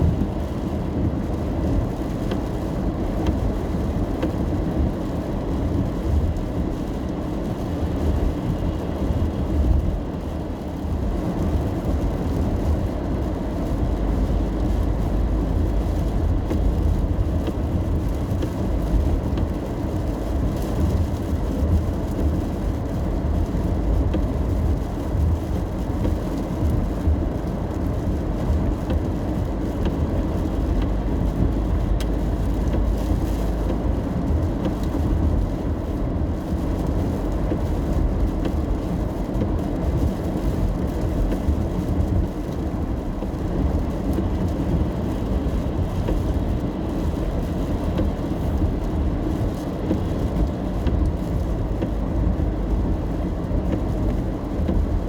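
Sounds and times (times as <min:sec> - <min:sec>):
tyres and engine rumble: 0:00.0 - 0:55.0.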